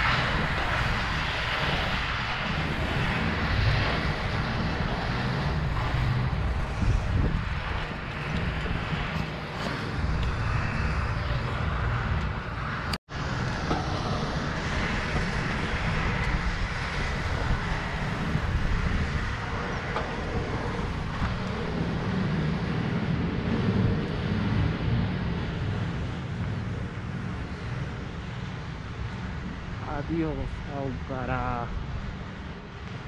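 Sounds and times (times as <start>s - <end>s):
bike tyres rumbling on paving: 0.0s - 30.6s
wind buffeting microphone: 0.0s - 33.0s.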